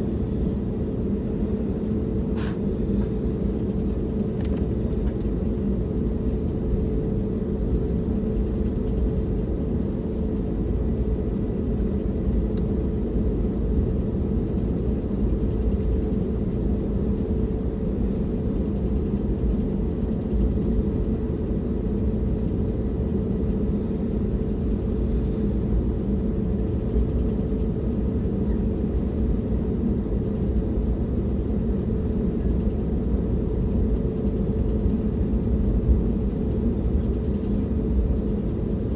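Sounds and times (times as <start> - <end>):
airplane engines idling: 0.0 - 38.9.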